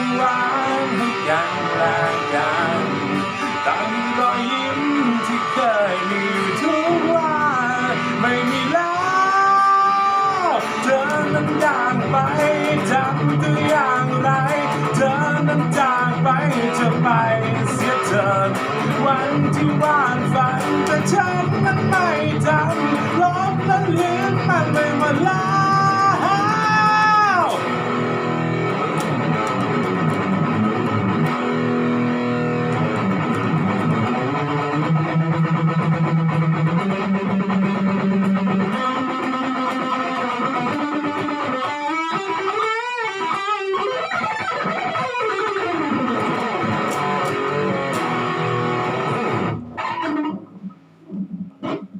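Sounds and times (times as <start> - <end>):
electric guitar solo: 0.0 - 51.9.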